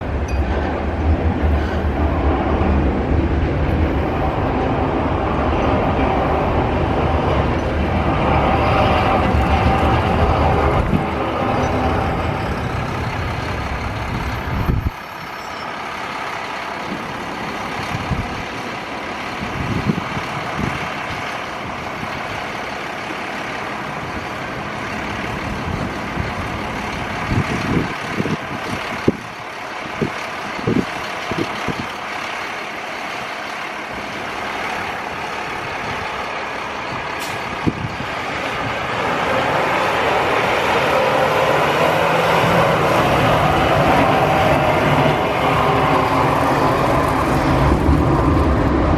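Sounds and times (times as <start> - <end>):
heavy truck engine rumbling: 0.0 - 48.9
street noise: 0.0 - 48.9.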